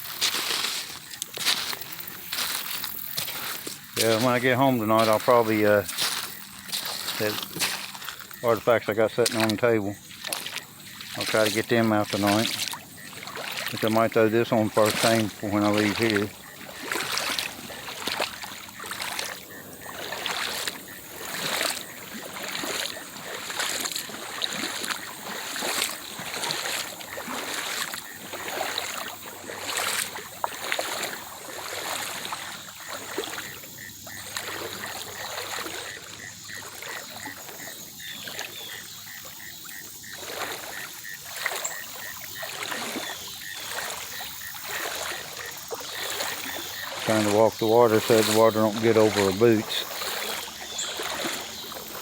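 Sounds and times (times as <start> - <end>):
boots splashing through water: 0.0 - 52.0
running stream: 0.0 - 52.0.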